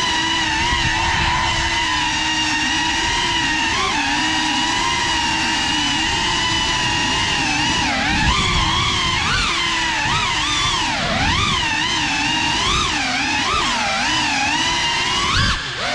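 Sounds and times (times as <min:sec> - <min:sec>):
drone motors and propellers whining: 0:00.0 - 0:15.9.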